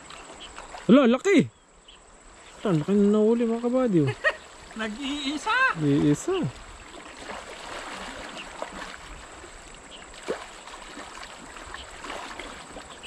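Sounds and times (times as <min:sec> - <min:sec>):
small water splashes: 0:00.0 - 0:01.1, 0:02.3 - 0:13.0
water sloshing around person wading: 0:00.0 - 0:01.1, 0:02.2 - 0:13.0.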